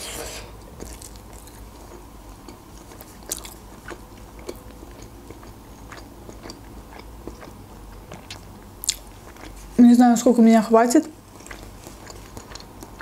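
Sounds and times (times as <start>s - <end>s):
person chewing: 0.6s - 9.8s, 11.2s - 13.0s.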